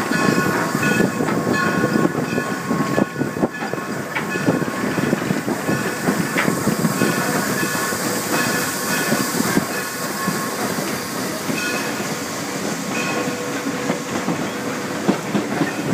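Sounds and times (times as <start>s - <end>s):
steam locomotive clattering rumble: 0.0s - 15.9s.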